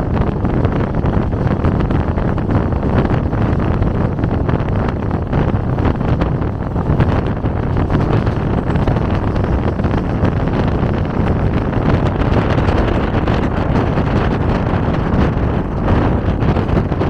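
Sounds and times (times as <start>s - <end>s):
train carriage rumble on rails: 0.0s - 17.0s
wind buffeting microphone: 0.0s - 17.0s.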